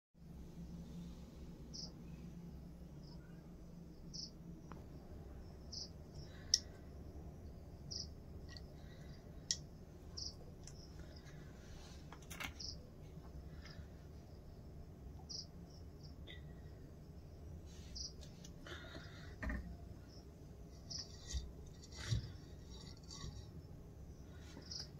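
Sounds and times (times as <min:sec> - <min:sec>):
cricket chirping: 0:01.0 - 0:24.9.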